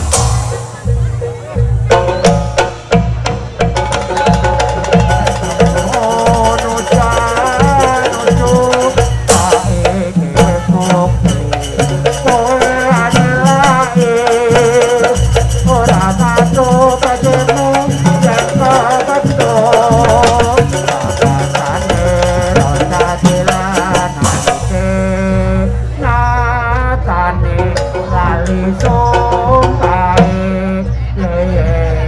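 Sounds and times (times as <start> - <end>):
wavering lead melody: 0.0 - 31.2
drums: 0.0 - 32.0
jingling rattling percussion: 0.0 - 32.0.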